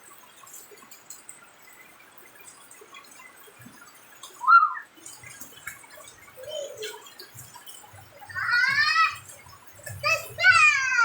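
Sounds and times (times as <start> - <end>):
water dripping and splashing: 0.0 - 11.0.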